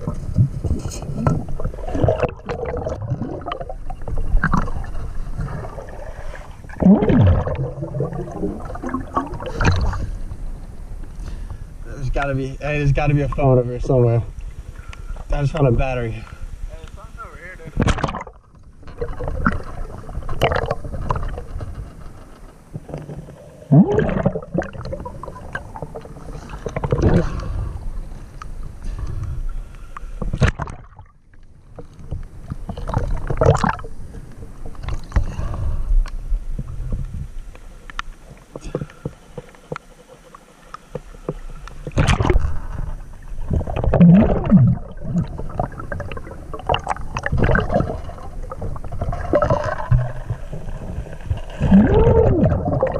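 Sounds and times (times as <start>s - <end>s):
underwater gurgling: 0.0s - 16.2s, 17.7s - 52.9s
muffled underwater rushing: 0.0s - 16.7s, 17.6s - 52.9s.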